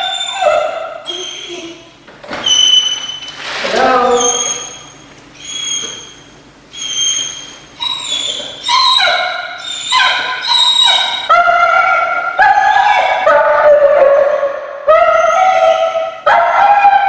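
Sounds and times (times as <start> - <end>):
dog whining: 0.0 - 14.3, 14.9 - 17.0.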